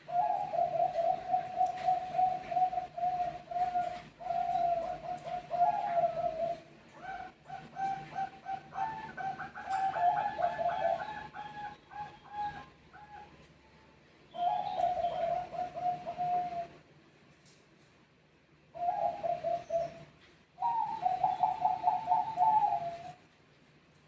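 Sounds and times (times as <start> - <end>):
doves cooing: 0.0 - 13.5, 14.3 - 16.9, 18.7 - 23.3.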